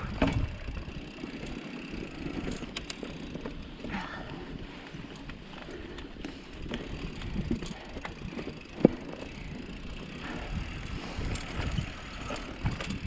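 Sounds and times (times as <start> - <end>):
bike rattling over rocks: 0.0 - 13.0.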